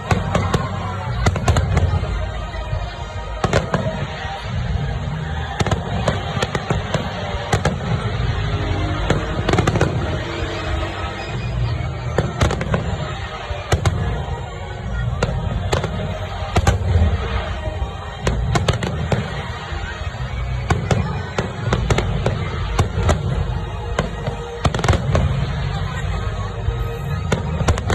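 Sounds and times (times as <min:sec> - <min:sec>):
fireworks bangs and pops: 0:00.0 - 0:10.6, 0:11.2 - 0:26.1, 0:27.0 - 0:27.9.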